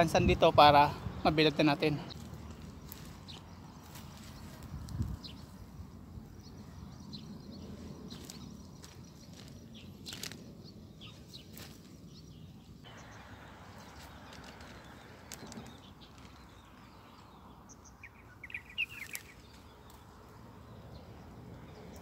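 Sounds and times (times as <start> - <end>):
bird chirps: 2.0 - 20.2.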